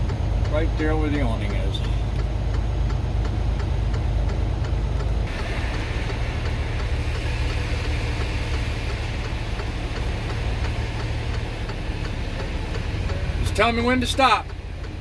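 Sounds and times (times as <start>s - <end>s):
diesel truck engine running: 0.0s - 15.0s
light ticking: 0.0s - 15.0s.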